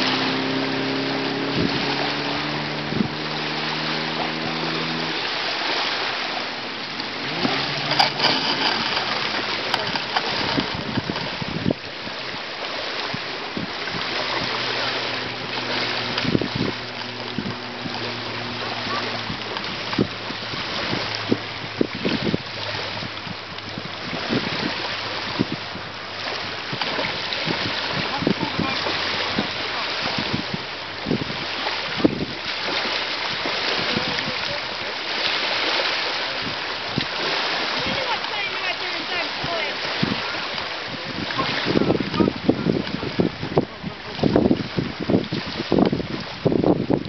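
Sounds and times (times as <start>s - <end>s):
boat motor hum: 0.0s - 47.0s
clicks and splashes at water's edge: 0.0s - 47.0s
waves washing onto pebble beach: 0.0s - 47.0s
wind on microphone: 0.0s - 47.0s.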